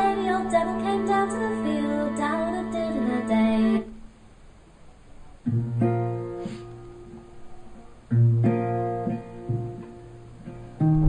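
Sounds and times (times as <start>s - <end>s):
folk music with guitar strumming: 0.0s - 3.9s, 5.5s - 11.0s.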